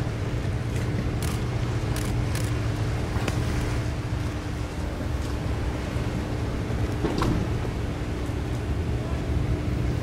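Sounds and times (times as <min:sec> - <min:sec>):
boat engines rumbling: 0:00.0 - 0:10.0.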